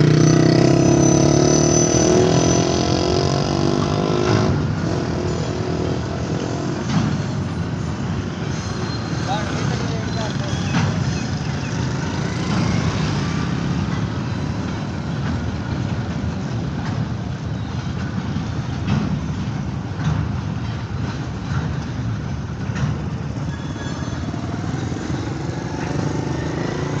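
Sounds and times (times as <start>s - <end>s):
train wagons rumbling on rails: 0.0s - 27.0s.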